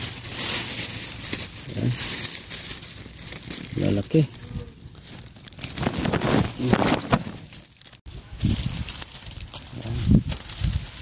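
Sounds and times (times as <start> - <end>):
plastic cover crinkling and rustling: 0.0 - 11.0.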